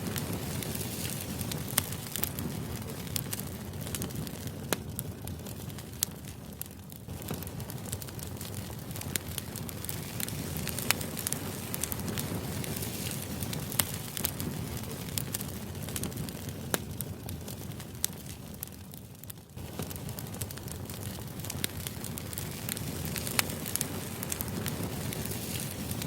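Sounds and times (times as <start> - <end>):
fire crackling and popping: 0.0 - 26.0
low fire rumble: 0.0 - 26.0.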